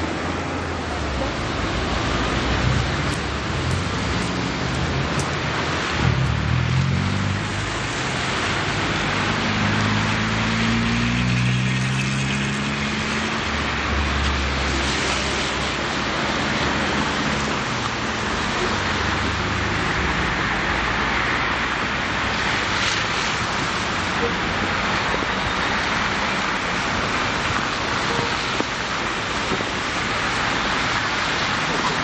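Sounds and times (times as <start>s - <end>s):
steady rushing outdoor noise: 0.0s - 32.0s.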